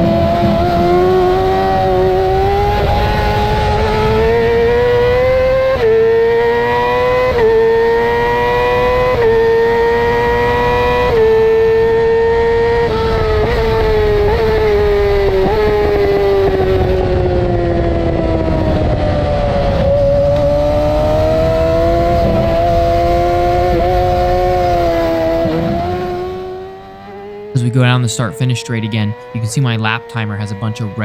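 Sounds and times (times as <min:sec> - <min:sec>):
rushing wind noise: 0:00.0 - 0:27.2
motorcycle engine at high revs: 0:00.0 - 0:31.0.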